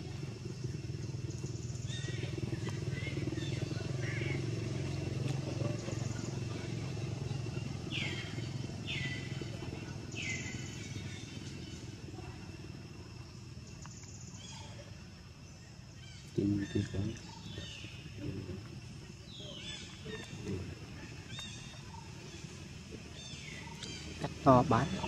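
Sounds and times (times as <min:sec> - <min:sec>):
distant motorcycle engine drone: 0:00.0 - 0:25.0.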